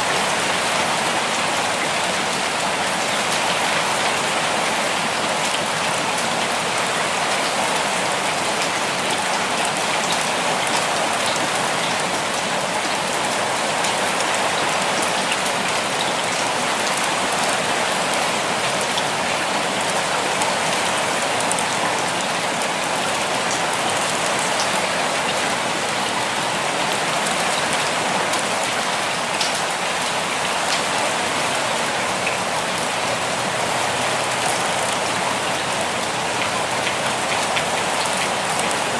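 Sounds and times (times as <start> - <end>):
steady rain with dripping: 0.0 - 38.9.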